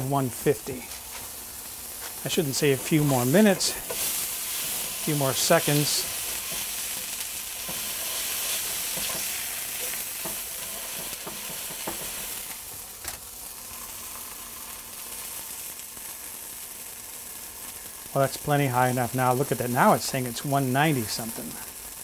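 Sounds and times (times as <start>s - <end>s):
meat sizzling in a skillet: 0.0s - 22.0s.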